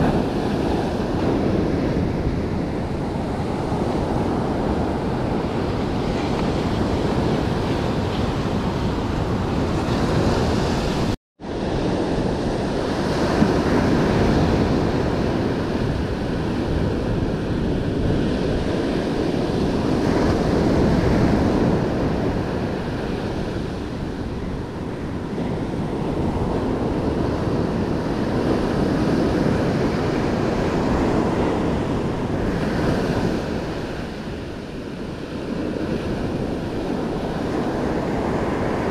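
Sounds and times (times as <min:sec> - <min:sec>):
ocean surf breaking on beach: 0:00.0 - 0:38.9
wind buffeting microphone: 0:00.0 - 0:38.9.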